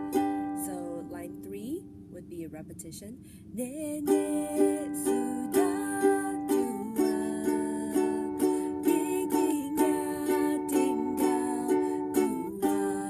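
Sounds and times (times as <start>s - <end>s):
ukulele strumming: 0.0s - 1.8s, 4.0s - 13.0s.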